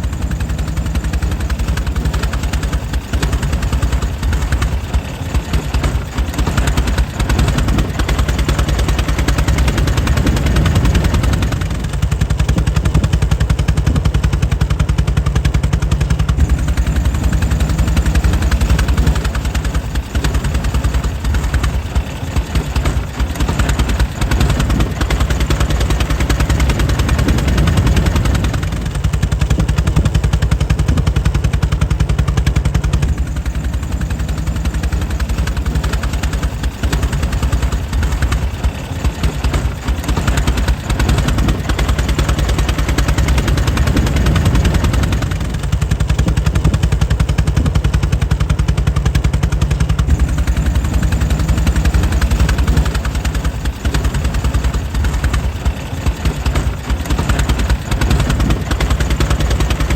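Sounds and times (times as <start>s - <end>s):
engine firing pulses: 0.0s - 59.9s.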